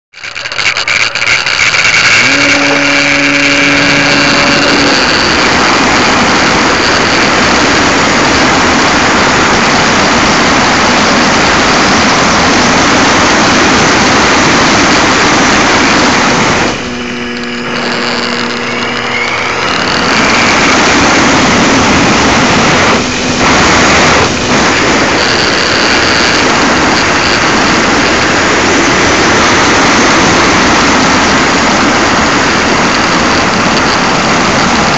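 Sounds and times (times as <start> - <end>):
model plane motor and propeller: 0.1 - 34.9
airflow over microphone: 0.2 - 34.9
steady hum: 0.2 - 34.9.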